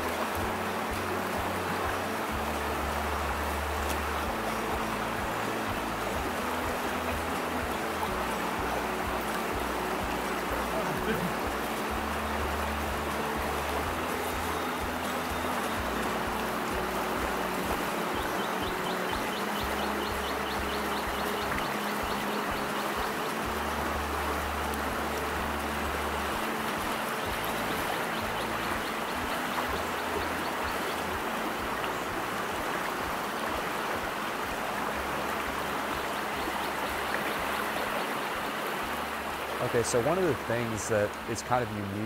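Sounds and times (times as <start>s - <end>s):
water running over rocks: 0.0s - 42.0s.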